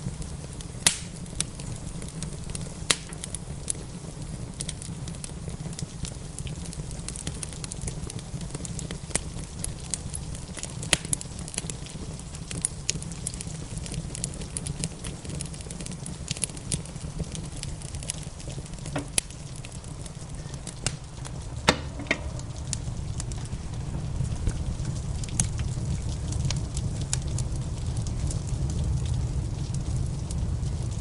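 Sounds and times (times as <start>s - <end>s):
low rumble of rain: 0.0s - 31.0s
wood fire crackling and popping: 0.0s - 31.0s.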